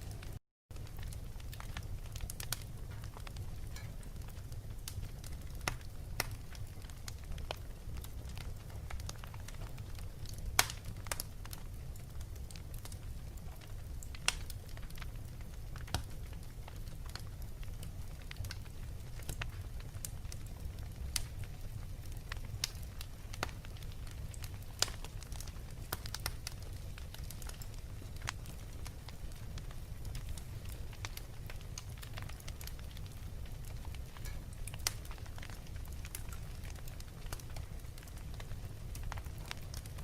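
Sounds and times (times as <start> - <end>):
fireplace crackling and popping: 0.0 - 40.0.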